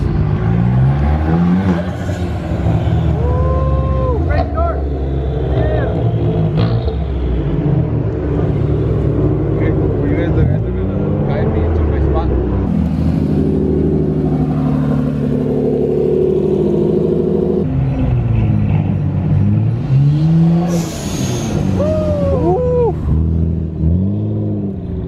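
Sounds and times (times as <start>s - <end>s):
sports car engines revving: 0.0s - 25.0s.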